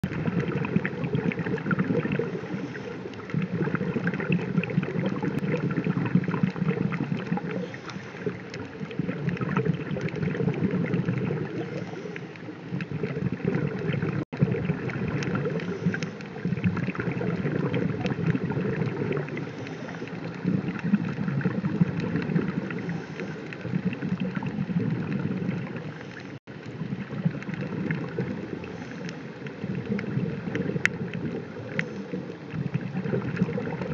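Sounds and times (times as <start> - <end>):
underwater rushing noise: 0.0 - 33.9
fine crackling clicks: 0.2 - 33.9.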